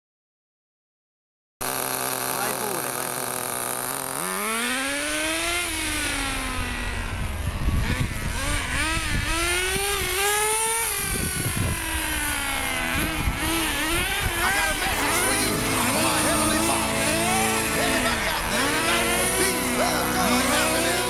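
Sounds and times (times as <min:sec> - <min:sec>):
small nitro engine revving: 0:01.6 - 0:21.0.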